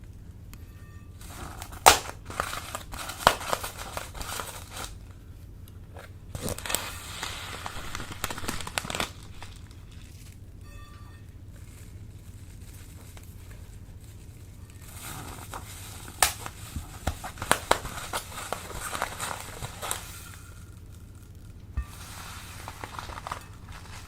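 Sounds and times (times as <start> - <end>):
slime crackling in plastic bags: 1.2 - 10.6, 11.3 - 24.0.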